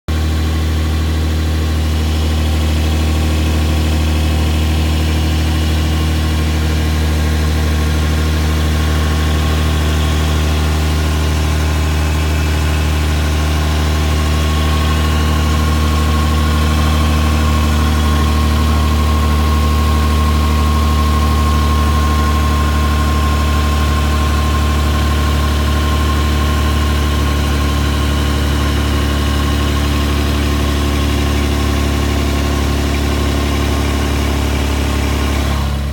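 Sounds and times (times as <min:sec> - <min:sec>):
engine idling with exhaust leak: 0:00.1 - 0:35.9.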